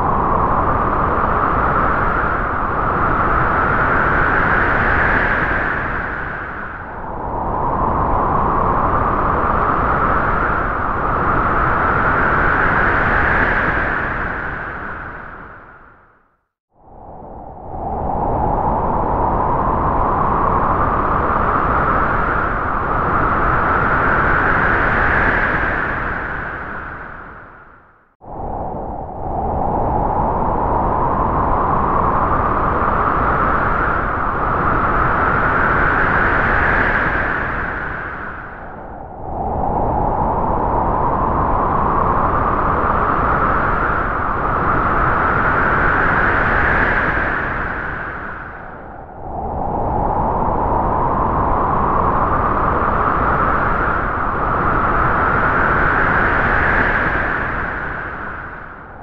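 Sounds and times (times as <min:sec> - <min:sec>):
howling wind: 0:00.0 - 0:59.0.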